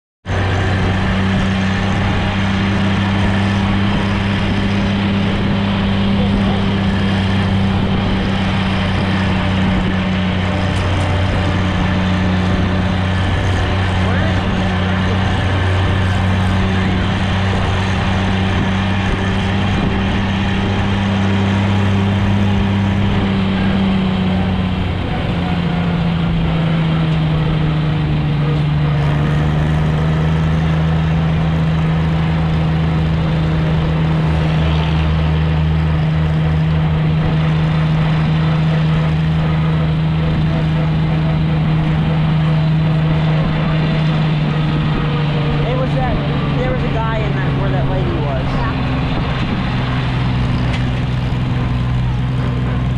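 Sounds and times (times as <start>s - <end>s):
tractor engine running: 0.2s - 52.9s.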